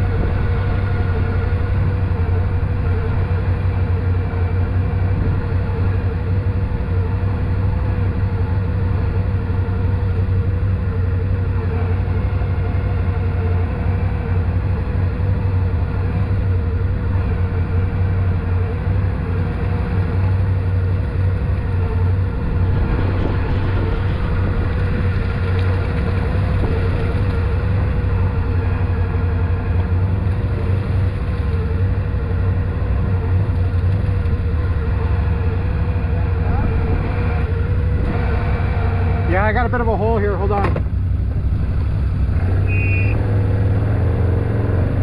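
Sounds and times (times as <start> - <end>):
atv engine running steadily: 0.0 - 45.0.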